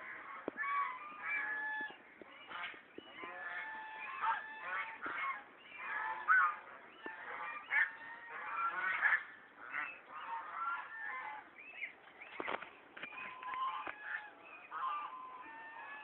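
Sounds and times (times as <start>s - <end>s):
waterfowl honking and calling: 0.0s - 16.0s.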